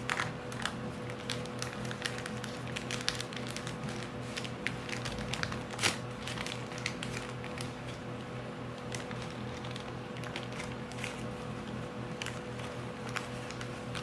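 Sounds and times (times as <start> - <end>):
paper crinkling and folding: 0.0 - 8.1, 8.7 - 14.0.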